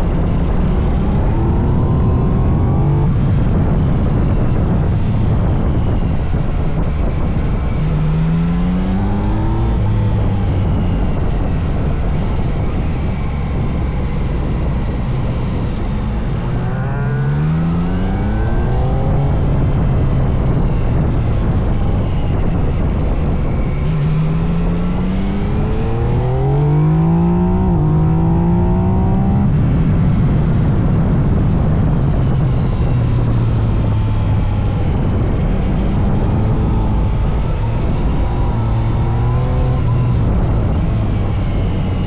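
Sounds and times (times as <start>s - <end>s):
constant rush of noise: 0.0s - 42.0s
motorcycle engine accelerating: 0.0s - 42.0s.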